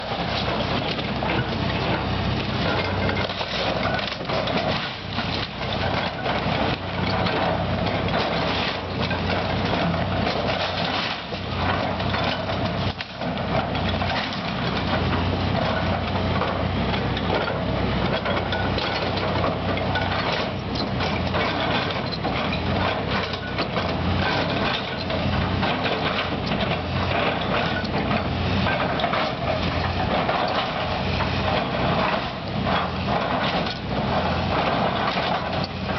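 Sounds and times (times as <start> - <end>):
heavy machinery engine running: 0.0 - 35.9.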